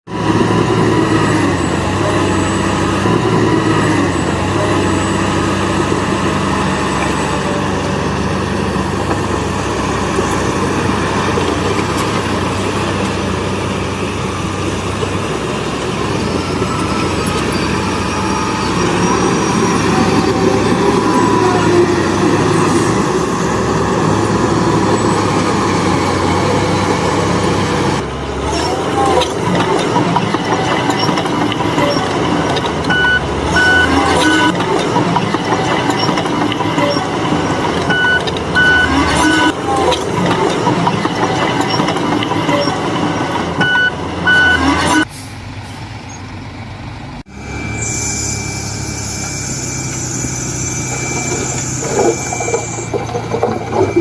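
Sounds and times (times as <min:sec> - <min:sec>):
heavy diesel machinery engines: 0:00.0 - 0:54.0.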